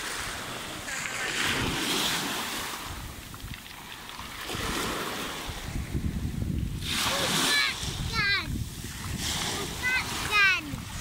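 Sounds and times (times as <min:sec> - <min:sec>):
waves washing over pebbles: 0:00.0 - 0:11.0
wind rumble on microphone: 0:00.0 - 0:11.0.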